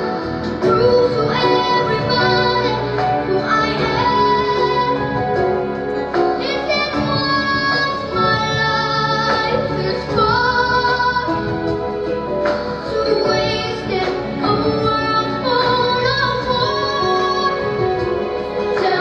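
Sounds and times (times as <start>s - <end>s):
slow pop ballad with high singing: 0.0s - 19.0s.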